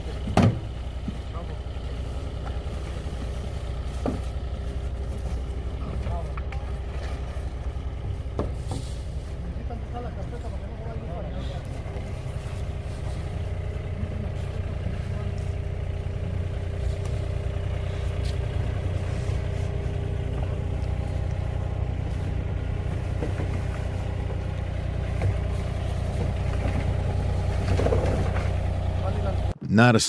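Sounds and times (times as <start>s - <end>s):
heavy machinery engine running: 0.0s - 30.0s.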